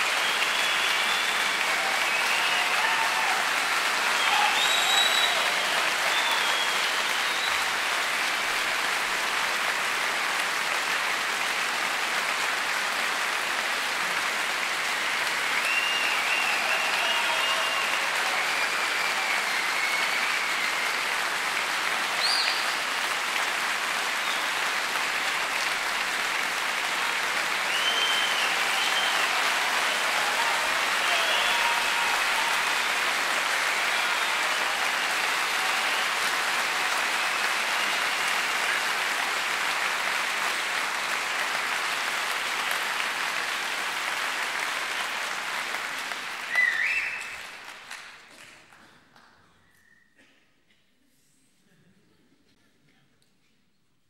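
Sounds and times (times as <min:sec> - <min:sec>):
audience applauding: 0:00.0 - 0:49.3.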